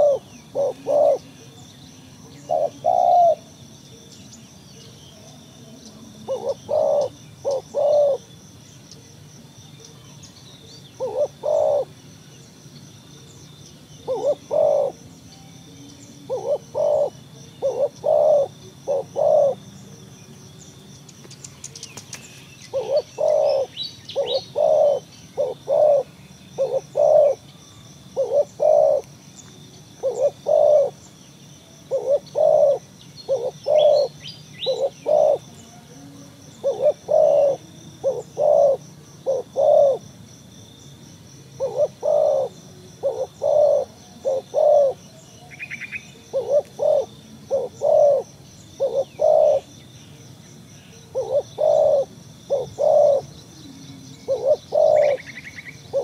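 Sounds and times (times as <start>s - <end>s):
doves cooing: 0.0s - 3.6s, 4.2s - 10.2s, 10.8s - 12.0s, 13.2s - 15.1s, 15.7s - 20.1s, 21.1s - 29.2s, 30.0s - 31.2s, 31.8s - 40.2s, 41.5s - 50.2s, 50.9s - 56.0s.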